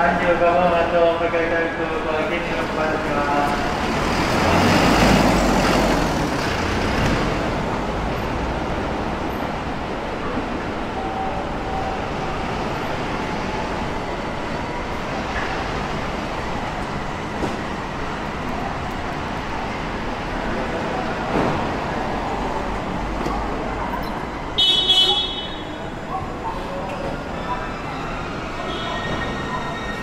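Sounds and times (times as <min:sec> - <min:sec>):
city road traffic hum: 0:00.0 - 0:30.0.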